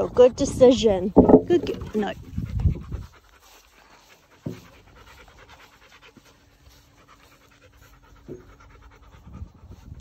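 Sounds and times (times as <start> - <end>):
dog panting: 0.8 - 10.0.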